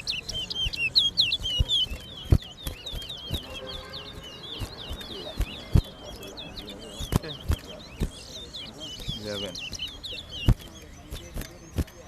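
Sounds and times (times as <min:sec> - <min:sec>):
finch chirping: 0:00.0 - 0:12.0.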